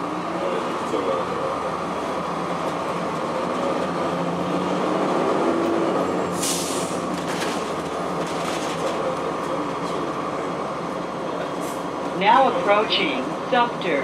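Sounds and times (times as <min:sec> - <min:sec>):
bus diesel engine droning: 0:00.0 - 0:14.0
road noise: 0:00.0 - 0:14.0.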